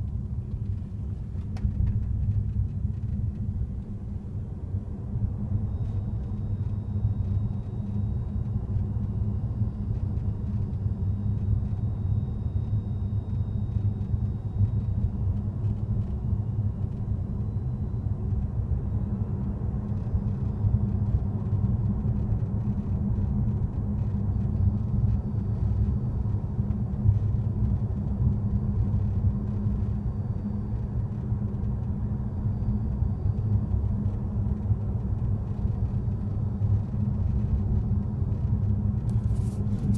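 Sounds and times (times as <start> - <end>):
faint high-pitched whine: 0.0 - 39.9
road rumble inside car: 0.0 - 39.9.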